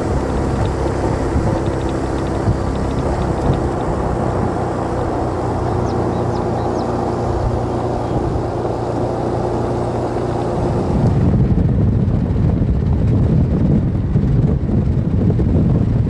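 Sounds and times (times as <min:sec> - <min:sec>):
vehicle engine and tyres droning: 0:00.0 - 0:16.0
wind buffeting microphone: 0:00.0 - 0:16.0.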